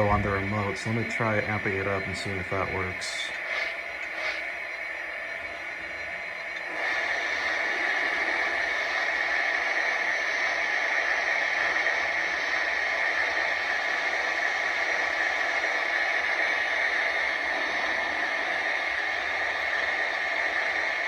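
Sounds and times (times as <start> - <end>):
model steam locomotive hissing: 0.0 - 21.0.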